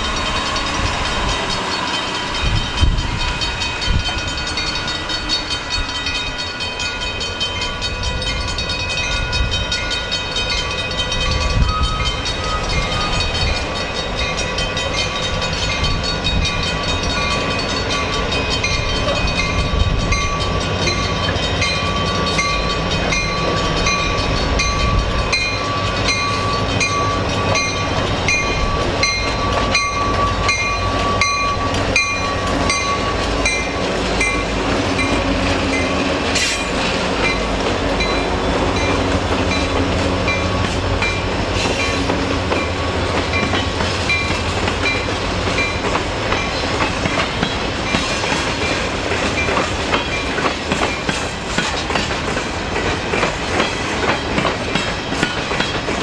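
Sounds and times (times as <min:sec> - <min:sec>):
diesel locomotive engines: 0:00.0 - 0:56.0
railroad crossing bell ringing: 0:00.0 - 0:56.0
wheels clacking over rail joints: 0:00.0 - 0:56.0.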